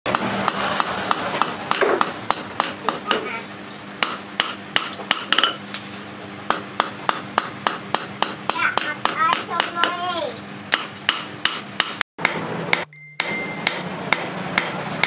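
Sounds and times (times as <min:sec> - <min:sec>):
hammer striking steel on anvil: 0:00.1 - 0:03.3, 0:04.0 - 0:05.6, 0:06.5 - 0:10.0, 0:10.7 - 0:15.0.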